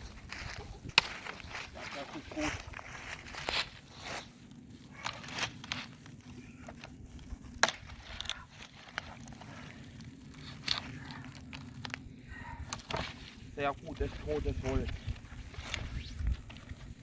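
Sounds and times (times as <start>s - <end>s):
firewood cracking and crunching: 0.0s - 17.0s.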